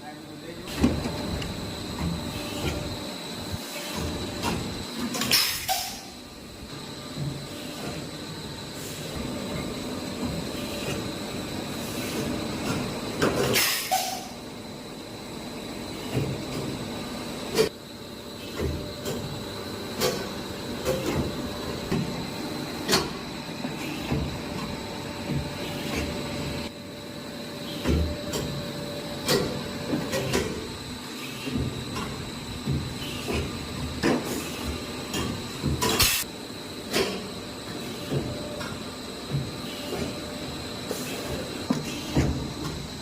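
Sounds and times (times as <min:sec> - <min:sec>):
machine hum with high whine: 0:00.0 - 0:43.0.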